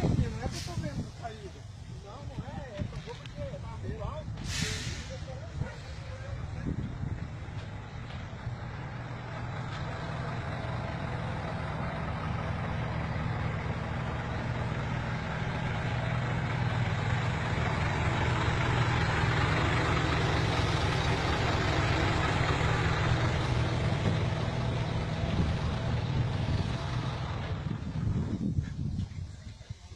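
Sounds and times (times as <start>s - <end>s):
truck diesel engine running: 0.0s - 29.8s.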